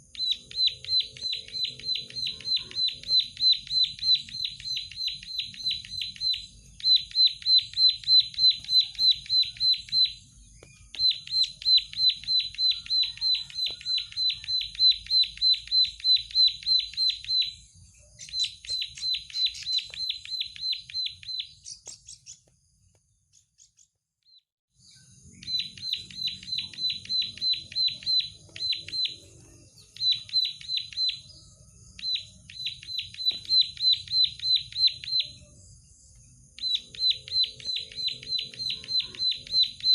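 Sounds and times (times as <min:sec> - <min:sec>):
bird singing sharp repeated notes: 0:00.0 - 0:39.9.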